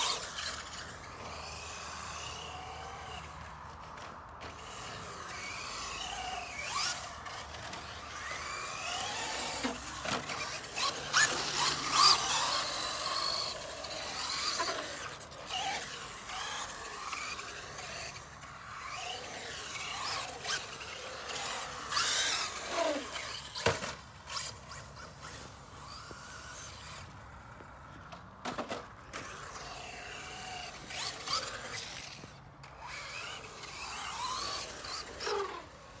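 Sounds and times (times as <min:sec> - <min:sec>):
electric motors whining: 0:00.0 - 0:36.0.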